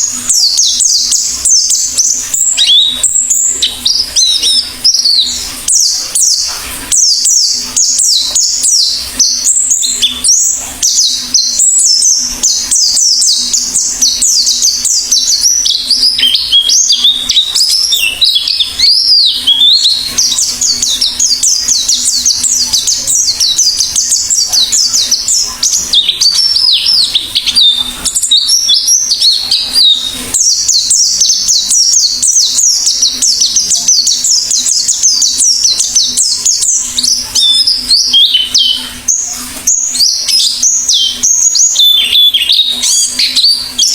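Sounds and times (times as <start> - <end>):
bird singing fast twittering warble: 0.0 - 43.9.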